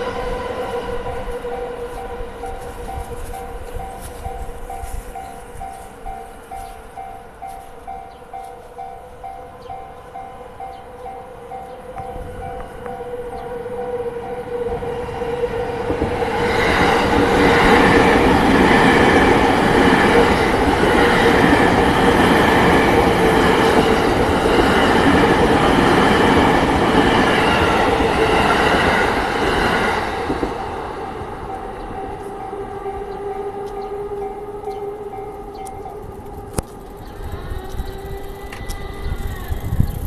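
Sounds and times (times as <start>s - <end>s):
level crossing warning alarm: 0.0s - 39.9s
electric train passing: 0.0s - 40.0s.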